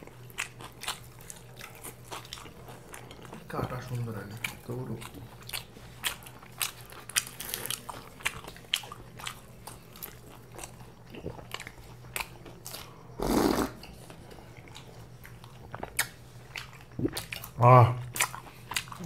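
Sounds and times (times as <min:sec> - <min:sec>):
chewing and crunching food: 0:00.0 - 0:19.0.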